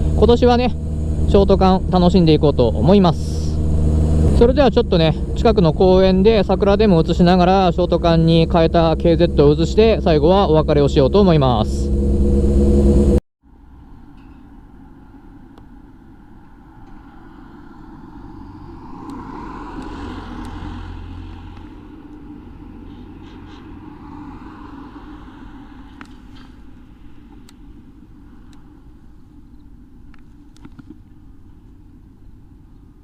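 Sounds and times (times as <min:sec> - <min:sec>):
motor vehicle passing: 0:00.0 - 0:14.0, 0:16.0 - 0:33.0
outdoor background rumble: 0:00.0 - 0:33.0.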